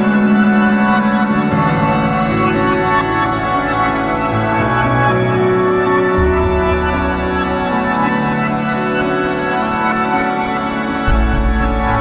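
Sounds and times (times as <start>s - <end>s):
background music sustained chords: 0.0s - 12.0s.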